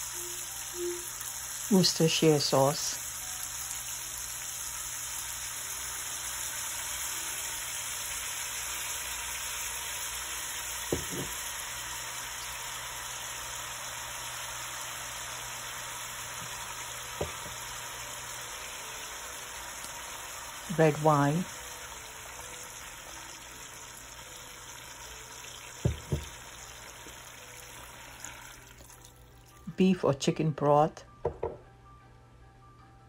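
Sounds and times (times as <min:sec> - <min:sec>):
meat sizzling in a pot: 0:00.0 - 0:29.7.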